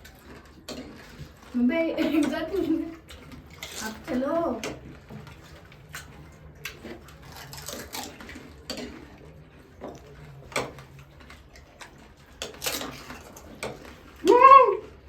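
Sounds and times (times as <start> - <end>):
dishes and utensils clinking: 0.0 - 14.3.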